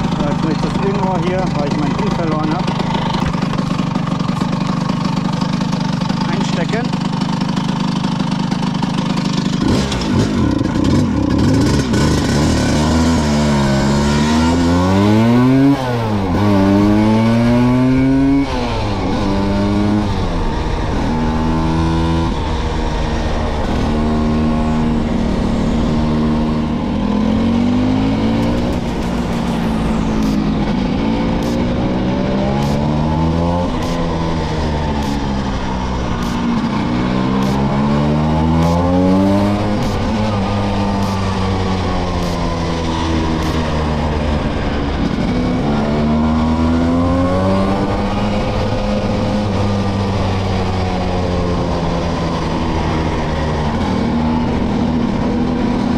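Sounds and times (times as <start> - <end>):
scooter engine accelerating: 0.0 - 55.9.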